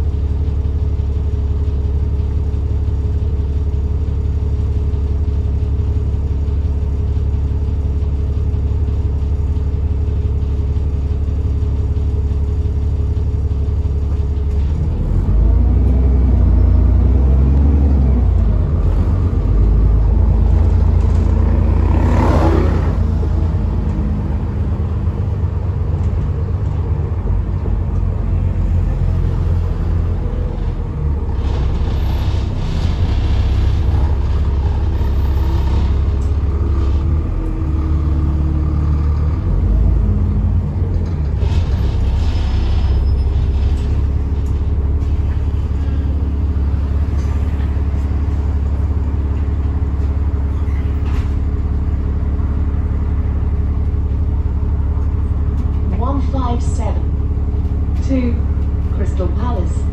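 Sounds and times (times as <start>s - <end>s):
bus engine rumbling: 0.0s - 59.9s.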